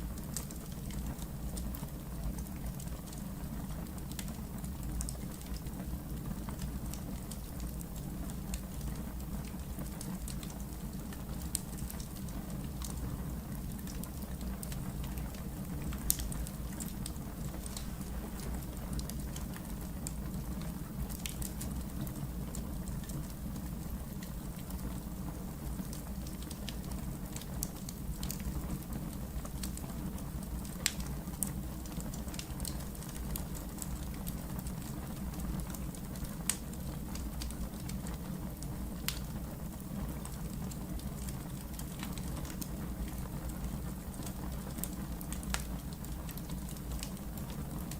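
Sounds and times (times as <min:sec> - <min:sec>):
low rumble of flames: 0:00.0 - 0:47.9
wood fire crackling: 0:00.0 - 0:47.9.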